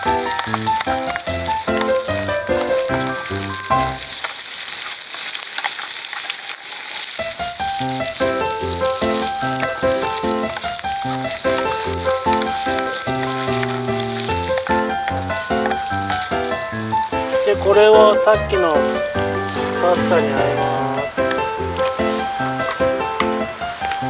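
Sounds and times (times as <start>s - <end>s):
background music: 0.0s - 4.0s, 7.5s - 24.0s
bacon sizzling: 0.0s - 24.0s.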